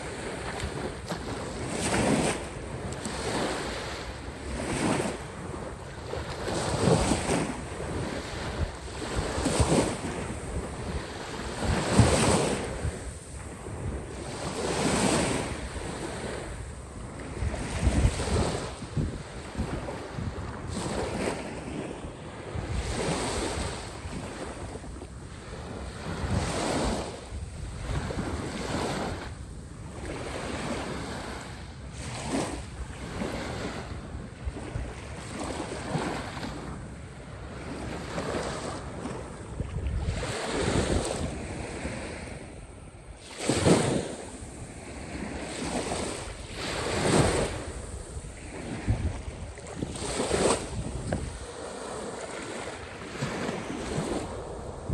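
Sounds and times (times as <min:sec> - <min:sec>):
waves breaking and washing in: 0:00.0 - 0:54.9
wind buffeting the microphone: 0:00.0 - 0:54.9.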